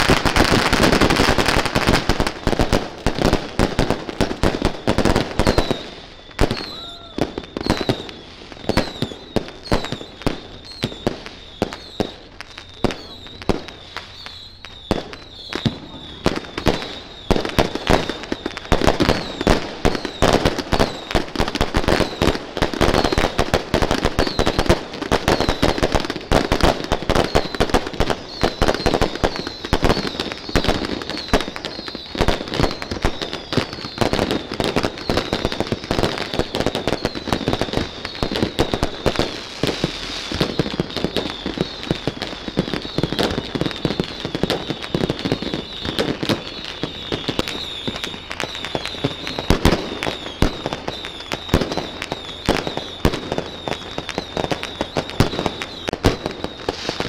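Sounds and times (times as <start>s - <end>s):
firecrackers and fireworks banging: 0.0s - 57.0s.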